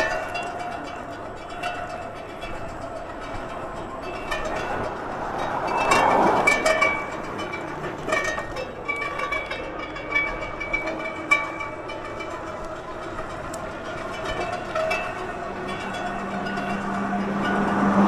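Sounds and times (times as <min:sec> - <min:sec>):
noisy rush: 0:00.0 - 0:18.0
rattling: 0:00.0 - 0:18.0.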